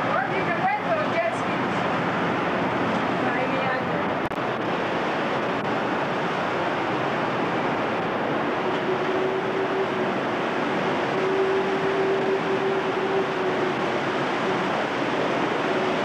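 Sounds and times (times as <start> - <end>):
distant surf: 0.0 - 16.0
steady motor drone: 0.0 - 16.0
wind: 0.0 - 16.0.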